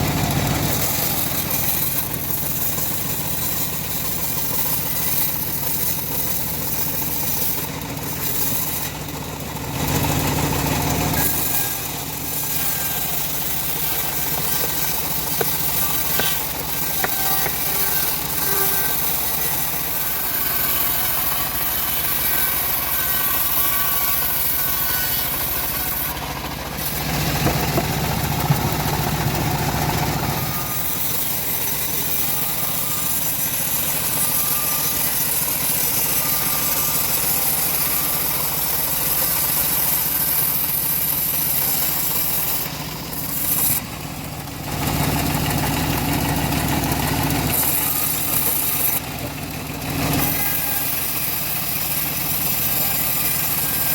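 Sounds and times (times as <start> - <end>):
bandsaw mill ripping wood: 0.0 - 53.9.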